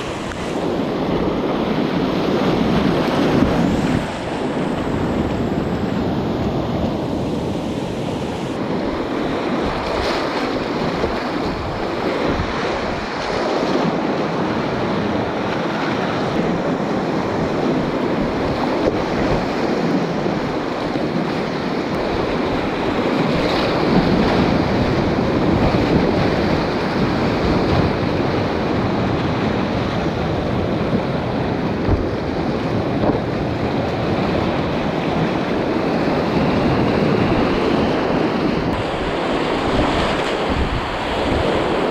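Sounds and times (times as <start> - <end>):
whitewater rushing and splashing: 0.0 - 41.9.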